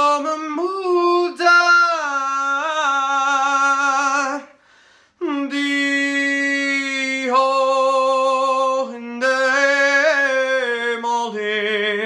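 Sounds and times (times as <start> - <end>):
man singing unaccompanied: 0.0 - 4.6, 5.2 - 12.0.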